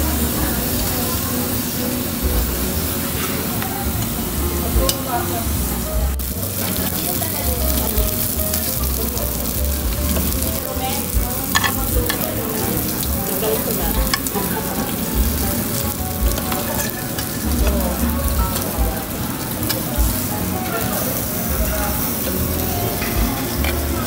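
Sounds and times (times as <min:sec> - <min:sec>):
meat sizzling on a grill: 0:00.0 - 0:24.0.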